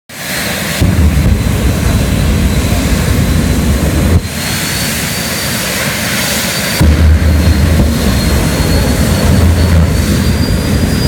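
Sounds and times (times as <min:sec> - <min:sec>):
high turbine whine: 0:00.1 - 0:11.0
jet engines roaring: 0:00.1 - 0:11.0
heavy low rumble: 0:00.2 - 0:11.0.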